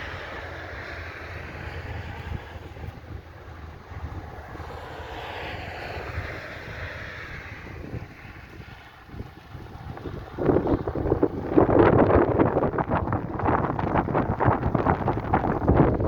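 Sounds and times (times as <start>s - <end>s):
distant aircraft drone: 0.0s - 16.0s
low wind rumble: 0.0s - 16.0s
wind buffeting microphone: 0.0s - 16.0s.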